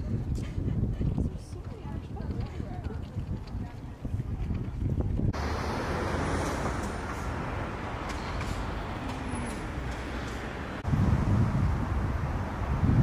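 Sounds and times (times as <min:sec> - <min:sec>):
city traffic rush: 0:00.0 - 0:13.0.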